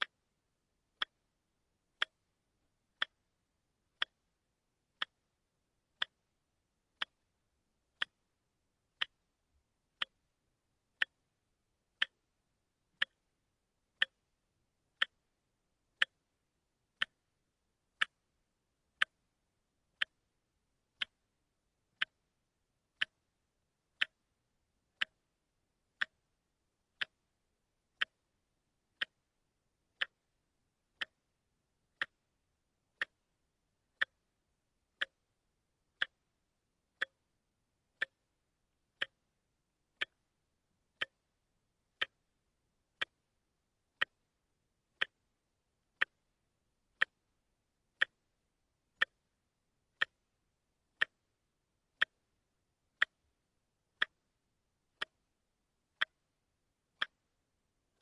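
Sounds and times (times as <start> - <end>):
watch ticking: 0.0 - 0.2, 0.9 - 3.3, 3.9 - 12.3, 12.9 - 17.3, 17.9 - 19.3, 19.9 - 22.3, 22.9 - 26.3, 26.9 - 28.3, 28.9 - 32.3, 32.9 - 37.3, 37.9 - 38.4, 39.0 - 40.4, 41.0 - 41.4, 42.0 - 43.4, 44.0 - 44.3, 44.9 - 51.4, 52.0 - 55.3, 55.9 - 56.3, 56.9 - 57.4.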